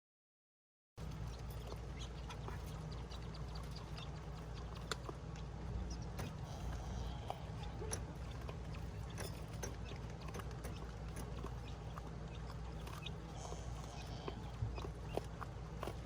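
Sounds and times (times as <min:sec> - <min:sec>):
quail pecking clicks and taps: 0:01.0 - 0:16.0
steady low hum: 0:01.0 - 0:16.0.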